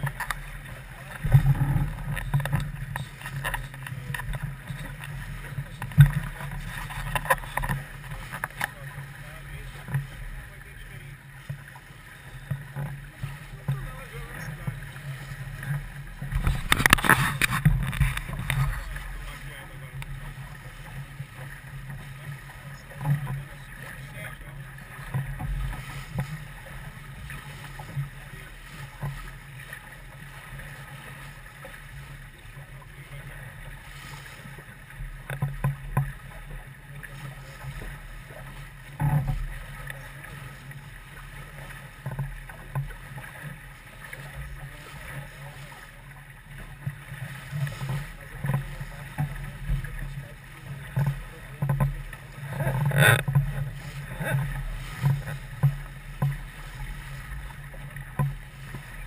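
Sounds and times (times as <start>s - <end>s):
water rumble: 0.0s - 59.0s.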